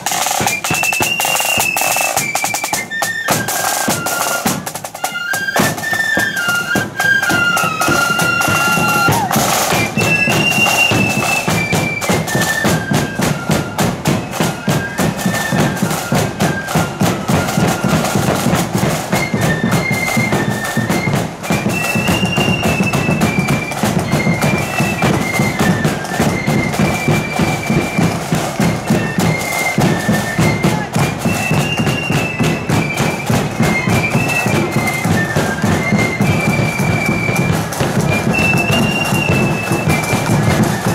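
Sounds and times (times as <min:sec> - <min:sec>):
flutes playing melody: 0:00.0 - 0:40.9
snare and bass drums march: 0:00.0 - 0:40.9.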